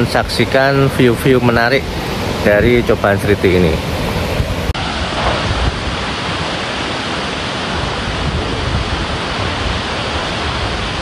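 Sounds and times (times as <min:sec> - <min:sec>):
waterfall rushing: 0:00.0 - 0:11.0
wind rumble on microphone: 0:01.6 - 0:11.0.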